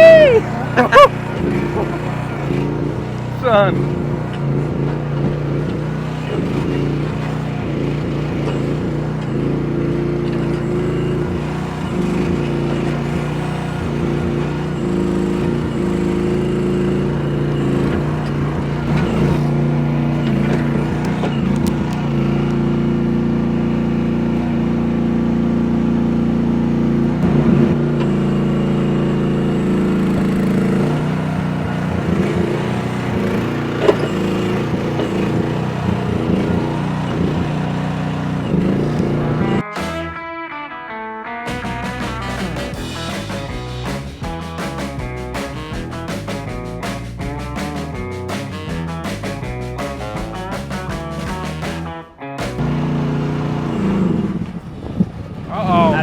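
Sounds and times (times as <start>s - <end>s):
construction machine engine running: 0.0s - 40.2s, 41.5s - 56.0s.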